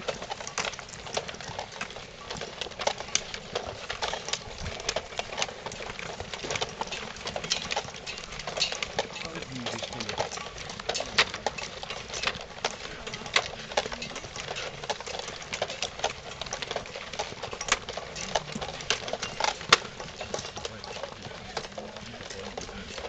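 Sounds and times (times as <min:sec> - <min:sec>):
footsteps on dirt path: 0:00.0 - 0:23.0
gear clattering: 0:00.0 - 0:23.0.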